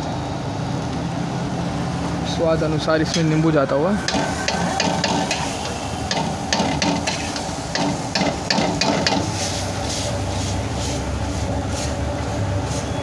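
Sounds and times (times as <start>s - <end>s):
frying hiss: 0.0s - 13.0s.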